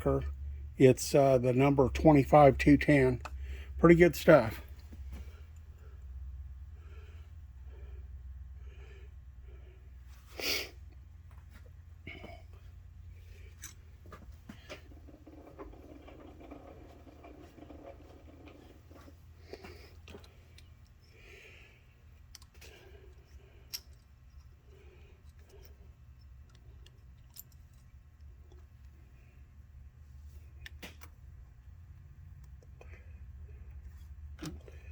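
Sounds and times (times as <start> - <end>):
steady low shop hum: 0.0 - 34.9.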